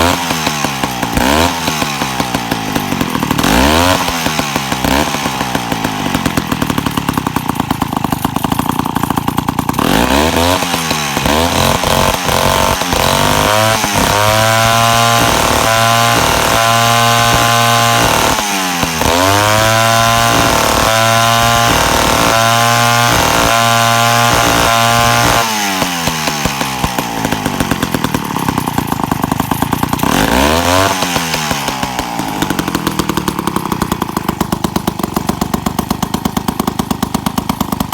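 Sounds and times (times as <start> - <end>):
chainsaw idling and revving: 0.0 - 37.9.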